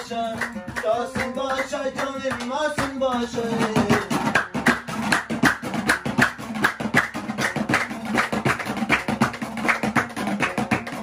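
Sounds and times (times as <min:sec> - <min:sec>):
percussion marking the beat: 0:00.0 - 0:11.0.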